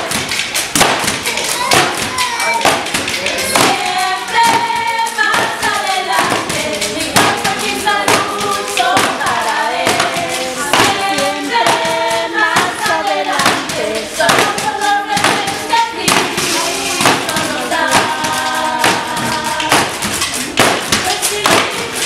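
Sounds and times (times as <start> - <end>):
hand percussion beat: 0.0 - 22.0
young voices singing together: 0.0 - 22.0.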